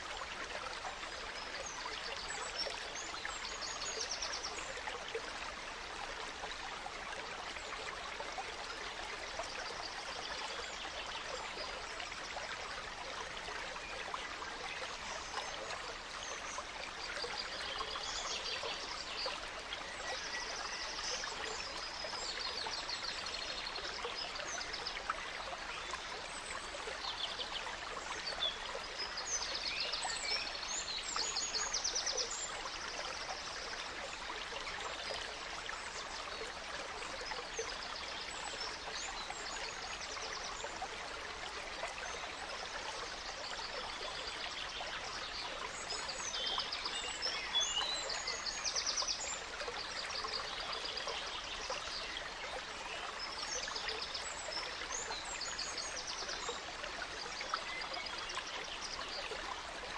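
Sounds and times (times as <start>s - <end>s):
small stream running: 0.0s - 59.9s.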